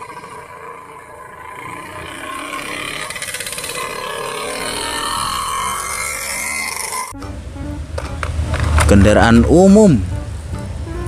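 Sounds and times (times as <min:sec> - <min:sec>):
auto-rickshaw engine puttering: 0:00.0 - 0:11.0.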